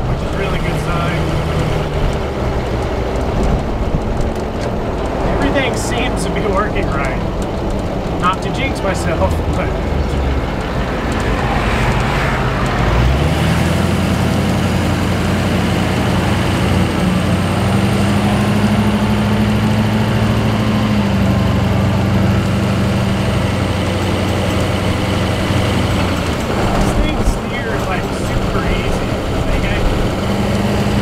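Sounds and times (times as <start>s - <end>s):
diesel engine while driving: 0.0s - 31.0s.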